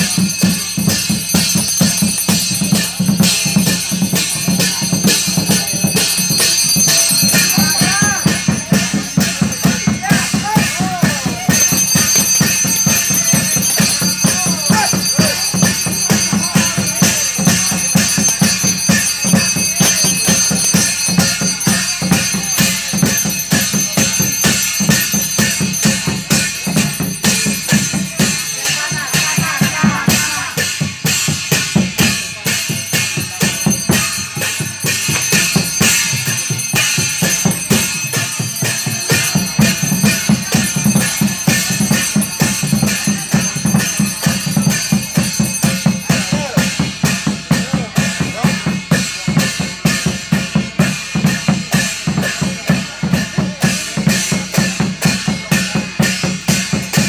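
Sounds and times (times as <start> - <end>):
drums beaten quickly: 0.0 - 57.0
jangling metallic percussion: 0.0 - 57.0.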